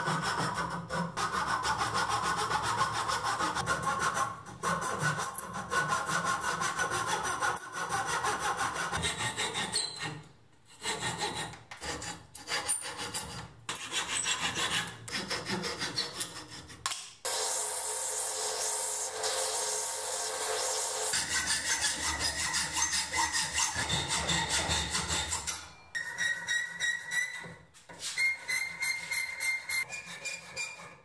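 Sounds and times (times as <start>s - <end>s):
hand saw cutting wood: 0.0s - 31.0s.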